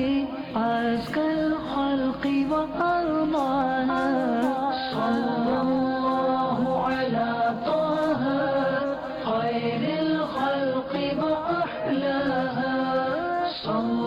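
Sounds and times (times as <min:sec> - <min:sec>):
solo voice singing devotional melody: 0:00.0 - 0:14.0.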